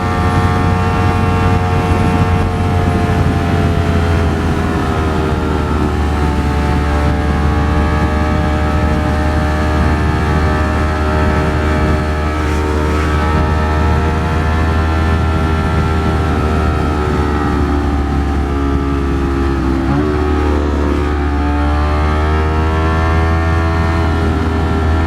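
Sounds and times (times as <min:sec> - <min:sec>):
heavy wind noise: 0:00.0 - 0:25.0
motorcycle engine running: 0:00.0 - 0:25.0.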